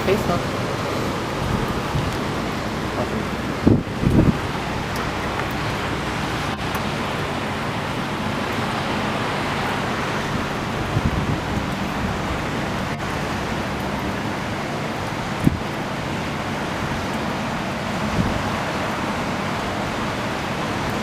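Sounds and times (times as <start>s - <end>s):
wind: 0.0s - 21.0s
wind buffeting microphone: 0.0s - 21.0s.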